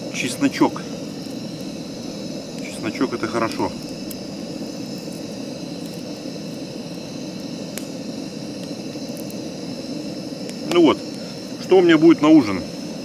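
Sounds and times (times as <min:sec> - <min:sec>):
gas stove burner hissing: 0:00.0 - 0:13.0.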